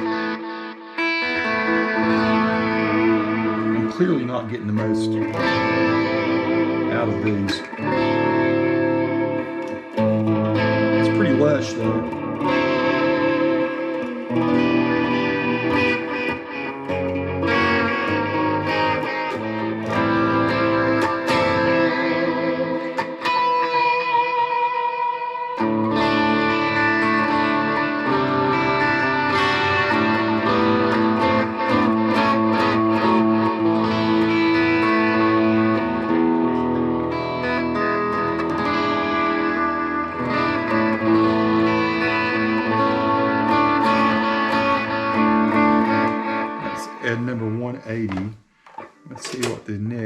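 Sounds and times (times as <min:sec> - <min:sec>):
electric guitar chords with echo: 0:00.0 - 0:49.6.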